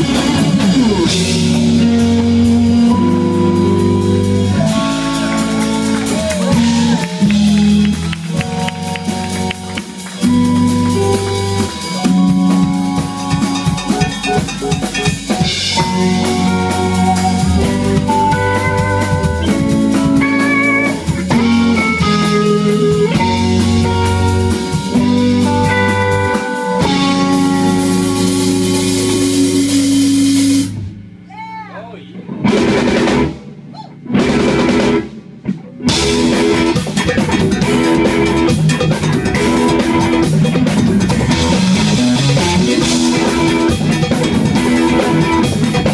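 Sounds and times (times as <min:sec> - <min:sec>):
drum kit rimshots and bass drum: 0:00.0 - 0:31.3, 0:32.4 - 0:45.9
funk rock band playing: 0:00.0 - 0:31.3, 0:32.2 - 0:45.9
guitar with bent notes: 0:00.0 - 0:45.9.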